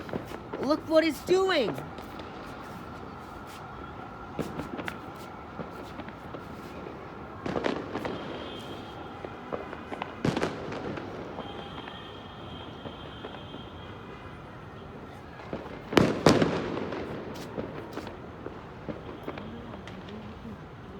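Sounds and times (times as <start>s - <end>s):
fireworks popping and banging: 0.0s - 12.0s, 15.4s - 20.6s.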